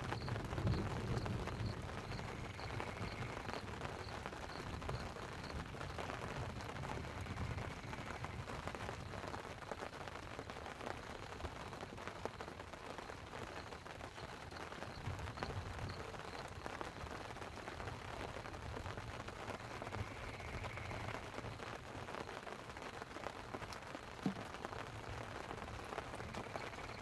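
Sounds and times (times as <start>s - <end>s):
rain pattering on tent: 0.0s - 27.0s.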